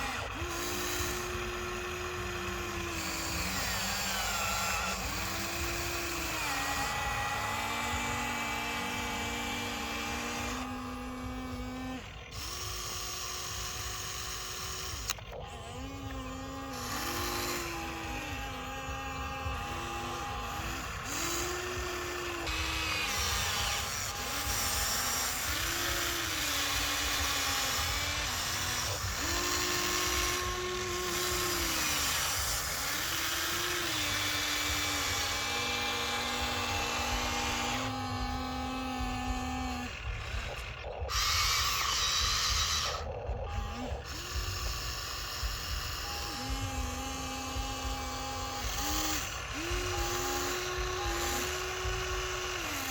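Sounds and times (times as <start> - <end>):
toy electric motors whirring: 0.0 - 52.9.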